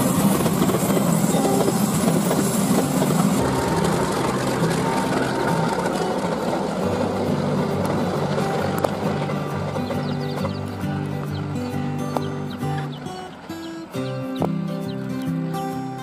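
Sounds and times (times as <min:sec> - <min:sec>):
train wagons rolling past: 0:00.0 - 0:14.0.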